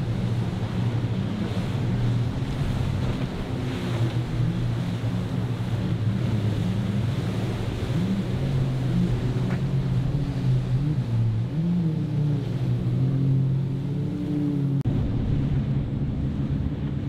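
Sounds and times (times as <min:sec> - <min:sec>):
motorboat engines humming: 0:00.0 - 0:17.0
waves rushing: 0:00.0 - 0:17.0
wind on microphone: 0:00.0 - 0:17.0.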